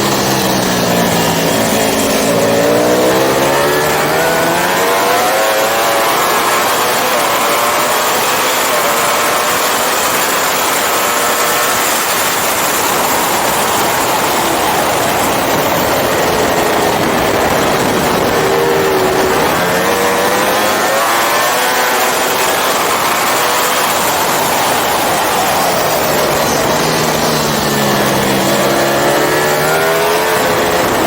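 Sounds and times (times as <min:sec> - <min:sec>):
motorcycle engine at speed: 0:00.0 - 0:31.0
wind rush: 0:00.0 - 0:31.0.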